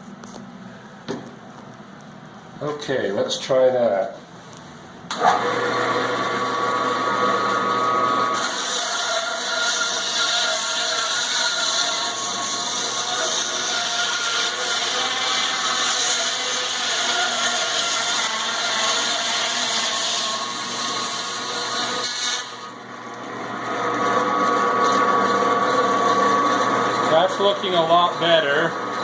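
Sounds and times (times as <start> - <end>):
band saw cutting meat: 5.1 - 29.0.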